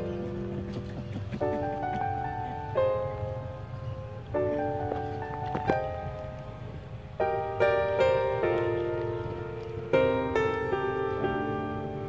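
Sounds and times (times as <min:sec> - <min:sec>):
keyboard music: 0:00.0 - 0:12.0.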